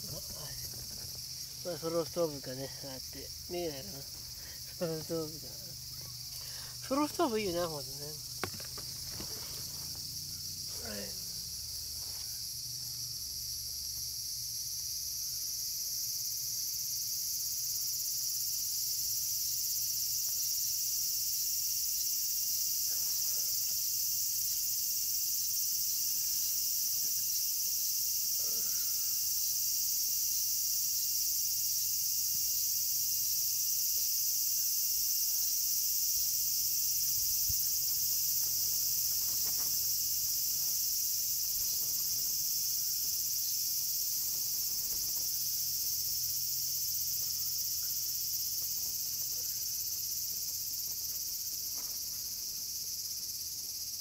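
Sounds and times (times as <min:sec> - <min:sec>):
shrill insect chorus: 0:00.0 - 0:54.0.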